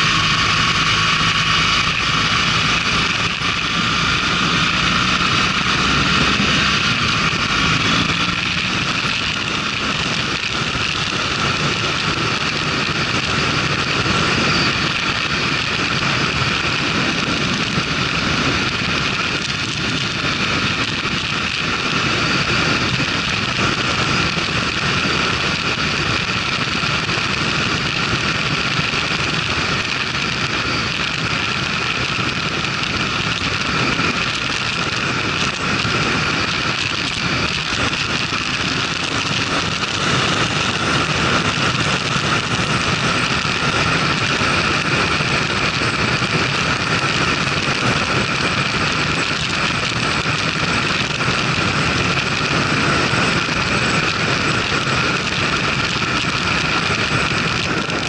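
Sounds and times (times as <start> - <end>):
motorcycle engine running: 0.0 - 58.0
wind on microphone: 0.0 - 58.0.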